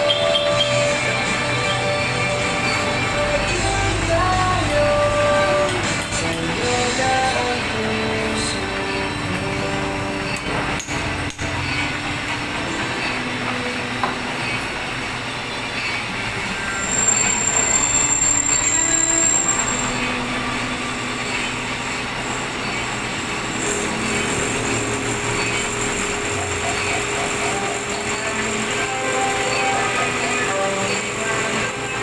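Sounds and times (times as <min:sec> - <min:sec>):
high-pitched metal squeal: 0:00.0 - 0:32.0
metalworking machinery running: 0:00.0 - 0:32.0.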